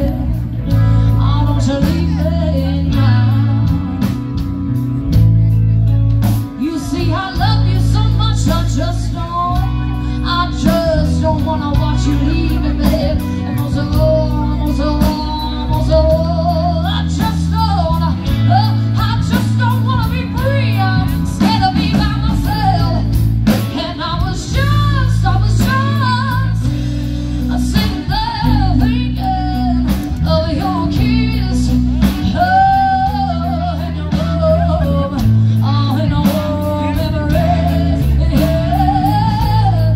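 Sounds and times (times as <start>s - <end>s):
bass line: 0.0s - 39.9s
guitar: 0.0s - 39.9s
person singing: 0.0s - 39.9s.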